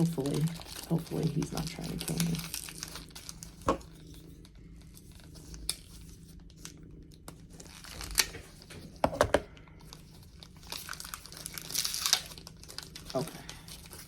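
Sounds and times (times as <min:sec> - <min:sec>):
packaging crinkling and tearing: 0:00.0 - 0:14.0
sharp crackles of packaging: 0:00.0 - 0:14.0.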